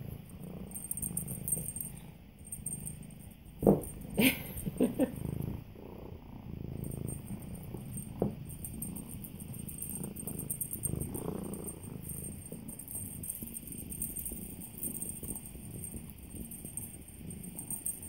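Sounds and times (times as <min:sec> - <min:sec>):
cat purring: 0:00.0 - 0:18.0.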